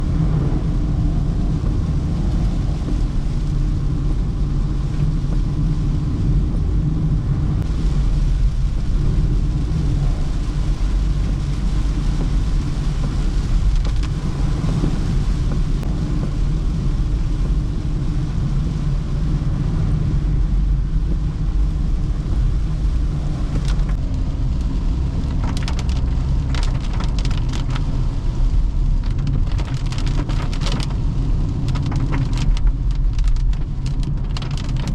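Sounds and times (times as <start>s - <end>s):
hiss of rain and spray: 0.0s - 34.9s
tyres and drivetrain rumbling: 0.0s - 34.9s.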